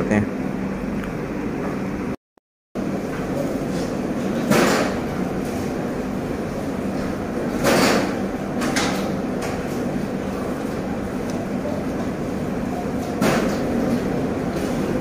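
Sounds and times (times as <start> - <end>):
restaurant room hum: 0.0 - 2.2, 2.8 - 15.0.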